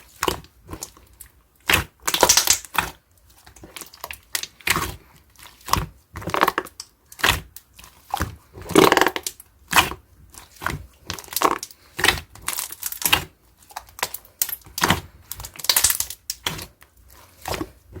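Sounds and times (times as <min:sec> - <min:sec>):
slime squelching and popping: 0:00.1 - 0:18.0.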